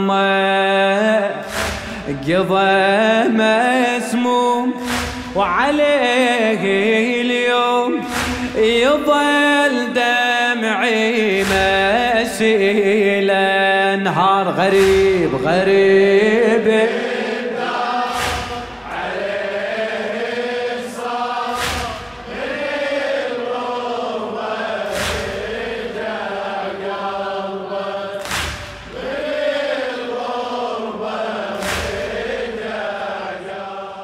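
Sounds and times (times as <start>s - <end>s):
men chanting: 0.0s - 34.0s.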